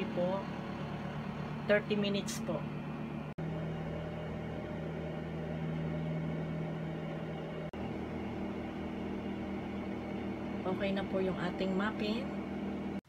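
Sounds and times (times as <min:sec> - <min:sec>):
electric oven humming: 0:00.0 - 0:13.0.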